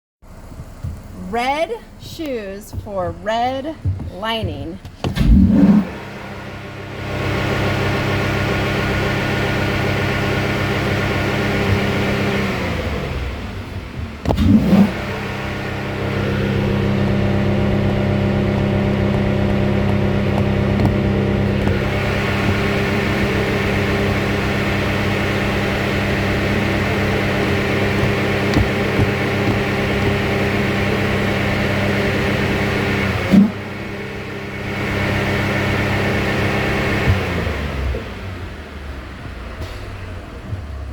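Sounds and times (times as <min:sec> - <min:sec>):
car engine revving: 0:04.8 - 0:40.9.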